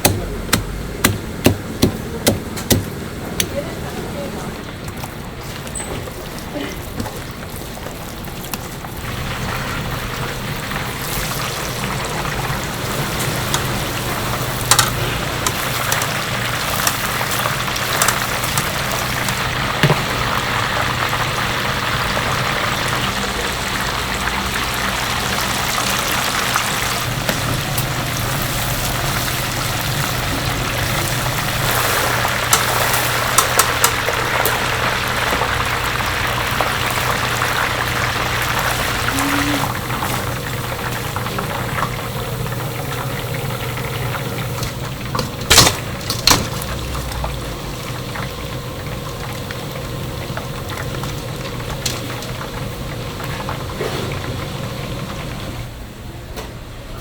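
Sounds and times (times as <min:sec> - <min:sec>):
chicken sizzling in hot oil: 0:05.1 - 0:55.4.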